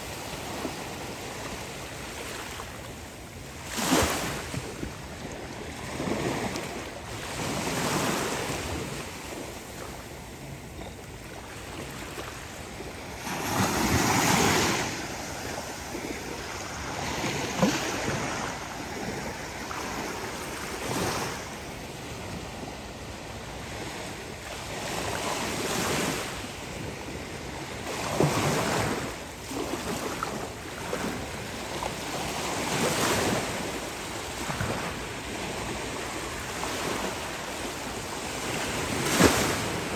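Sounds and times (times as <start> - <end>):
small ocean waves breaking: 0.0 - 39.9.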